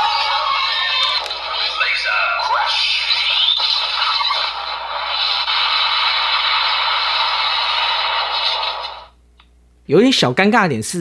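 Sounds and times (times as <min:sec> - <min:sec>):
harsh electronic toy sound effect: 0:00.0 - 0:09.1.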